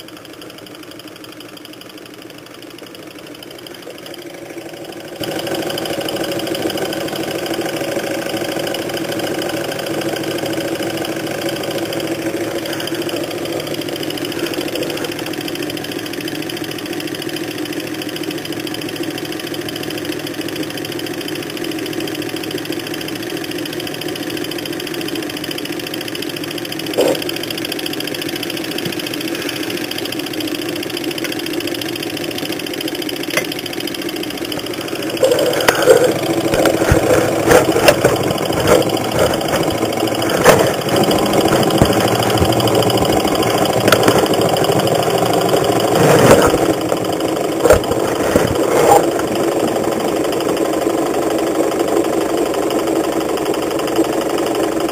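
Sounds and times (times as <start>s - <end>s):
stirling engine running: 3.4s - 18.6s, 25.7s - 54.8s.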